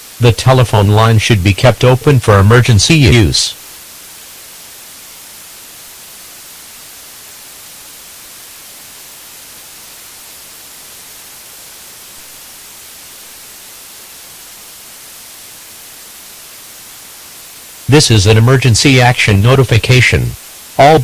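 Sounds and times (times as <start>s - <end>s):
static hiss: 0.0s - 21.0s.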